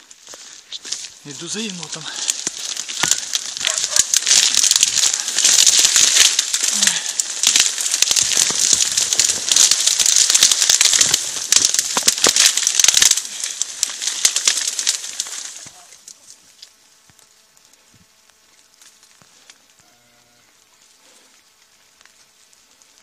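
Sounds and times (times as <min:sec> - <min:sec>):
dry reeds rustling and snapping: 0:00.0 - 0:23.0.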